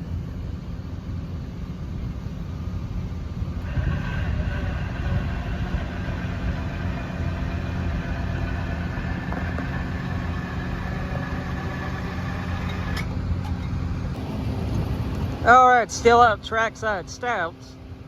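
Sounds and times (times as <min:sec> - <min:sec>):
engine idling: 0:00.0 - 0:18.0
faint high whine: 0:00.0 - 0:18.0.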